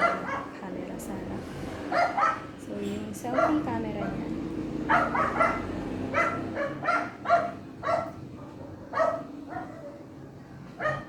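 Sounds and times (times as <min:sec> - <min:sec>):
dog barking: 0:00.0 - 0:00.6, 0:01.9 - 0:02.5, 0:03.3 - 0:11.0.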